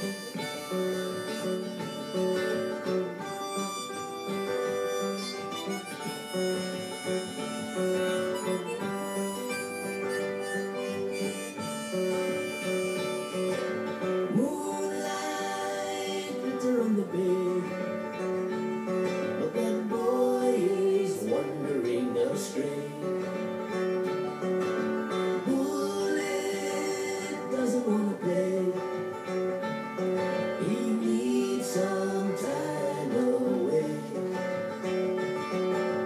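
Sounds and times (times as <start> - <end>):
harmonica chords: 0.0 - 36.0
strummed acoustic guitars: 0.0 - 36.0.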